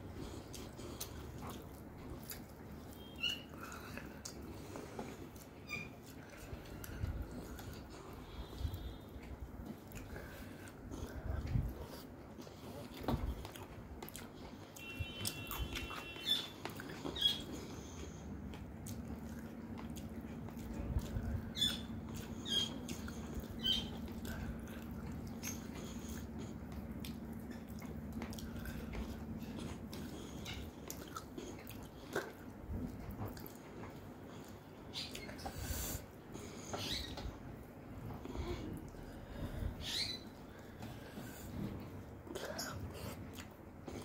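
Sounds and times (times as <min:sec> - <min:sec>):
person chewing: 0:00.0 - 0:37.0, 0:37.6 - 0:44.0
faint steady hum: 0:00.0 - 0:44.0.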